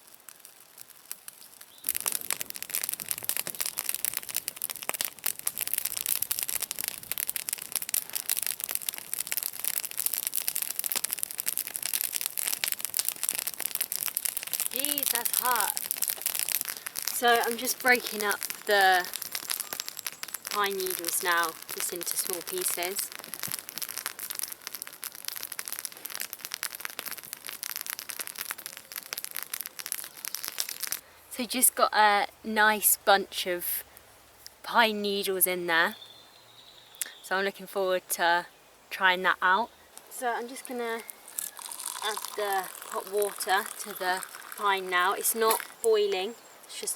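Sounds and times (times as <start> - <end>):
pine needles crackling by hand: 0.0 - 31.0, 38.8 - 46.9.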